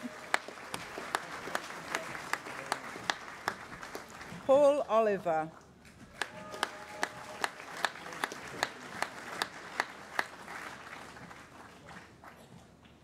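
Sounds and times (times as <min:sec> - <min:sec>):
close hands clapping sharply: 0:00.0 - 0:04.3, 0:06.1 - 0:13.0
audience applauding: 0:00.0 - 0:04.5, 0:06.1 - 0:13.0.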